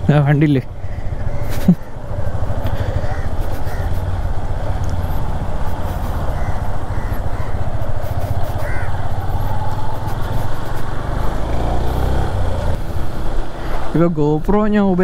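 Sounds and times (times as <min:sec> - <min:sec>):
motorcycle engine running: 0:00.0 - 0:12.8
wind and road noise: 0:00.0 - 0:15.0.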